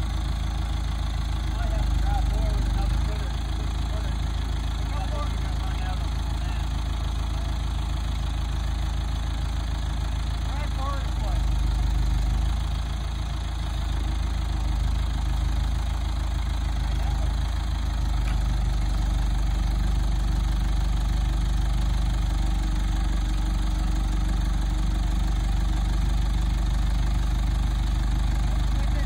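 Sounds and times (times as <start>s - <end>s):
forklift engine idling: 0.0s - 29.0s.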